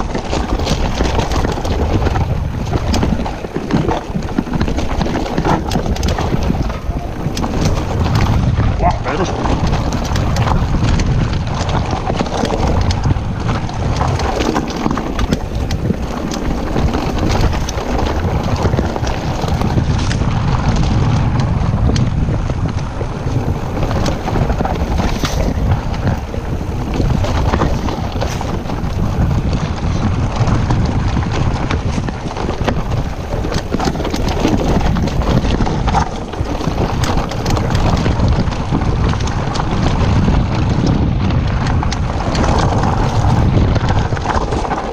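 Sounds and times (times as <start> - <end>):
bike rattling: 0.0 - 44.9
tyres crunching over stones: 0.0 - 44.9
wind buffeting microphone: 0.0 - 44.9.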